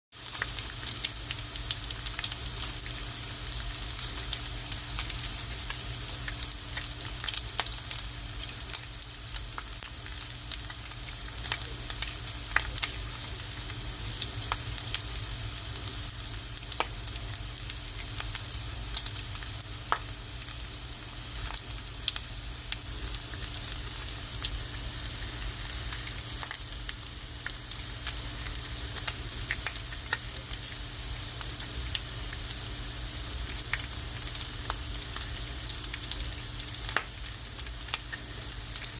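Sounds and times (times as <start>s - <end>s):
bacon sizzling in a pan: 0.1s - 38.9s.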